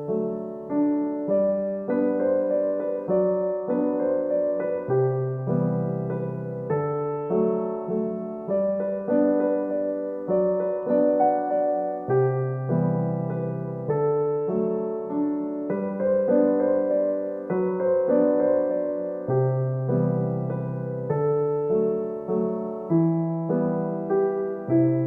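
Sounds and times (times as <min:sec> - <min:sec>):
gentle solo piano piece: 0:00.0 - 0:25.0.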